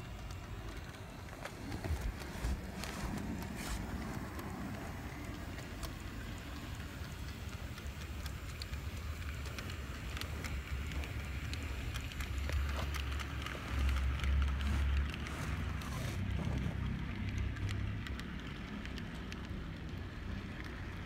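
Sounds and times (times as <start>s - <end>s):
low train rumble: 0.0s - 21.0s
model train wheels rattling: 0.0s - 21.0s
small clicks along rails: 0.0s - 21.0s.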